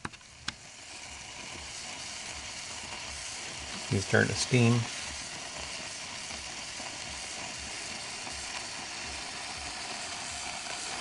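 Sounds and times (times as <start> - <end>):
bottle warmer sizzling and hissing: 0.0 - 11.0.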